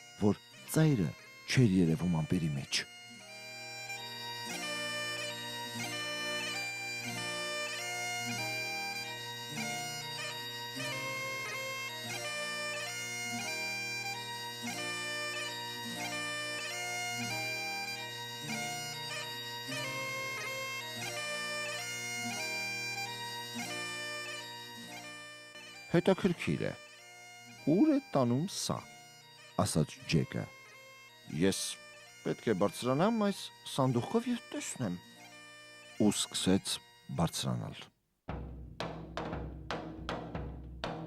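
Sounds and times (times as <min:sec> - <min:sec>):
reedy wind instrument melody: 0:00.0 - 0:37.8.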